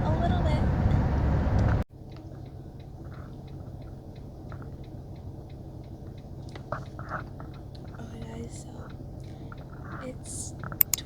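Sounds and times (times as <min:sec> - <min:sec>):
car cabin hum: 0:00.0 - 0:01.8, 0:02.7 - 0:11.0
faint regular ticking: 0:00.0 - 0:11.0.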